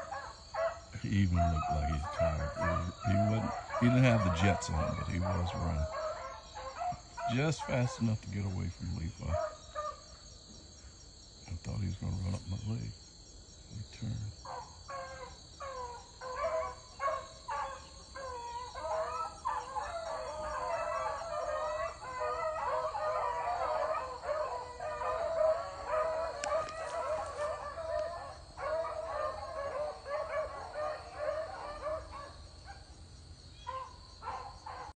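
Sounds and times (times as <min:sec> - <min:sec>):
beagles baying: 0:00.0 - 0:10.2, 0:14.0 - 0:32.9, 0:33.5 - 0:35.0.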